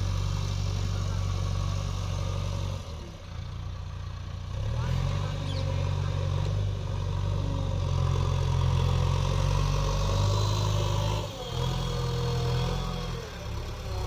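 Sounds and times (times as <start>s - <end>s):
heavy diesel engine humming: 0.0s - 14.0s.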